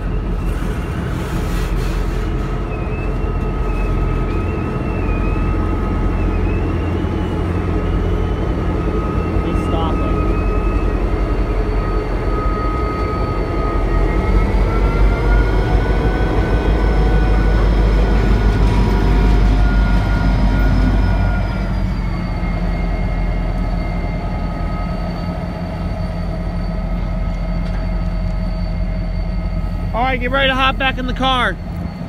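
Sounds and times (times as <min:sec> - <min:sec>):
diesel locomotive engines rumbling: 0:00.0 - 0:32.0.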